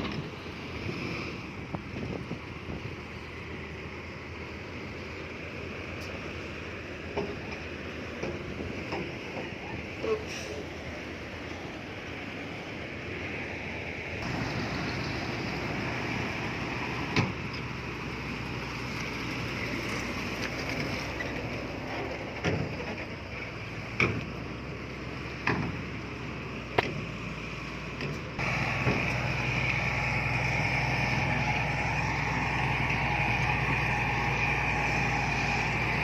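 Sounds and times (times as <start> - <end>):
heavy earthmoving machinery running: 0.0 - 36.0.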